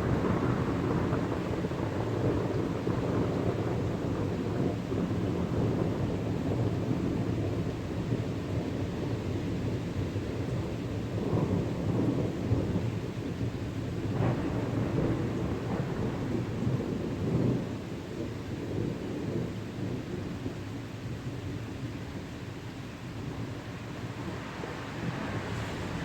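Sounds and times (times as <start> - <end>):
thunder rumbling: 0.0 - 21.6, 23.2 - 26.0.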